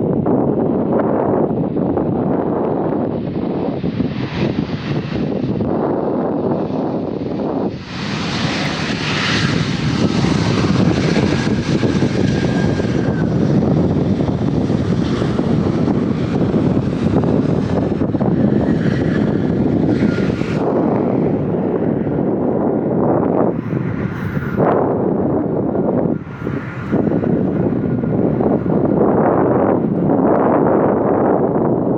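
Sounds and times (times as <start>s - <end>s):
airliner engines passing: 0.0s - 31.9s.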